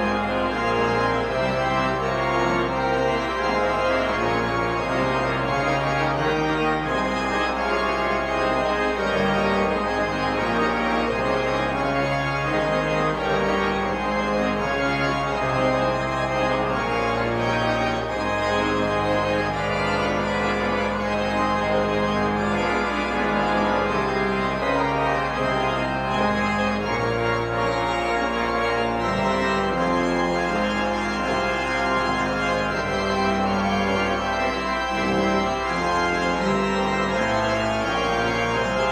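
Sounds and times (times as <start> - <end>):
church organ playing: 0.0 - 38.9.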